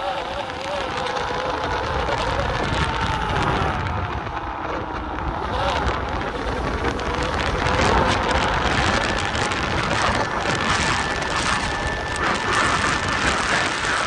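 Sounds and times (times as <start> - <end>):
faint high whine: 0.0 - 14.0
wind and road noise: 0.0 - 14.0.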